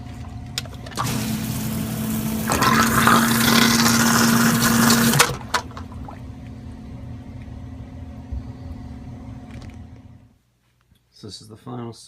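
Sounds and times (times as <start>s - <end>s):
sump pump motor hum: 0.0s - 10.3s.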